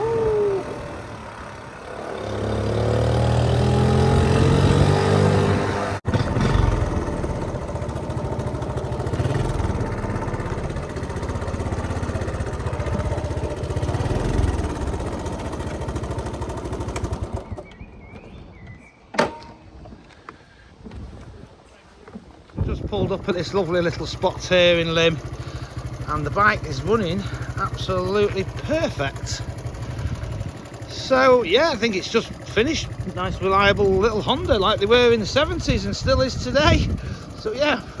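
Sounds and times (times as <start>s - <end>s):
motorcycle engine pulling away: 0.0s - 18.6s, 22.6s - 38.0s.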